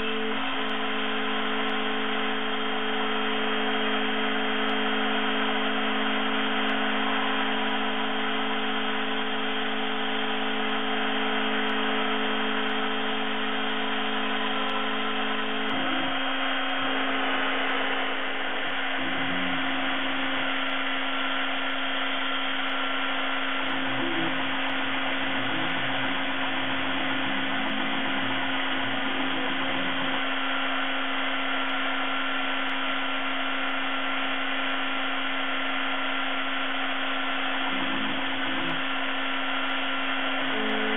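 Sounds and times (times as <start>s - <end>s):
cnc mill motor whine: 0.0s - 40.9s.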